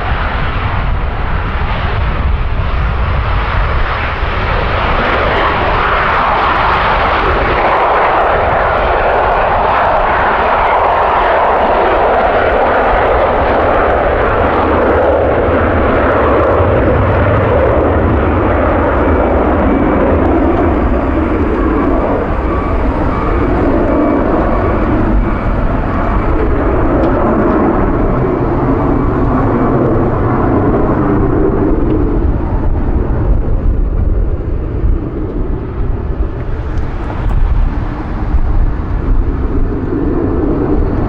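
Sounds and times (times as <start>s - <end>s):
jet engines roaring: 0.0s - 41.0s
low rumble: 0.0s - 41.0s.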